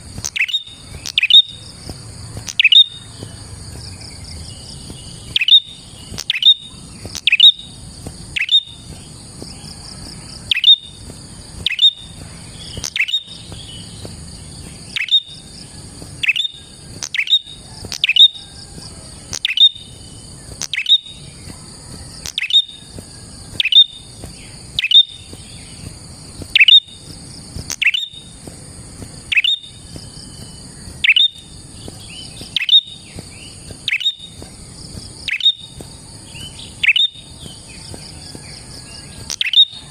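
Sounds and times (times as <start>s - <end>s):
bird calling: 0.0s - 39.9s
steady high buzz: 0.0s - 39.9s.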